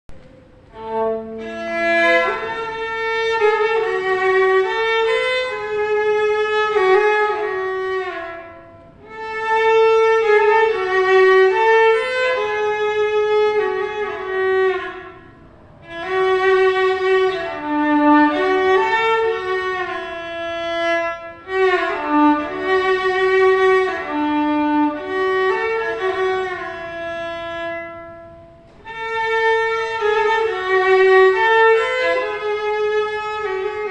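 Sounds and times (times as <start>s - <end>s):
bowed fiddle melody: 0.2s - 33.9s.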